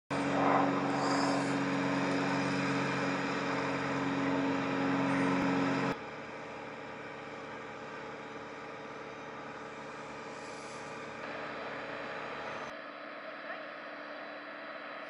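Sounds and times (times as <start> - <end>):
engine hum: 0.0 - 12.7.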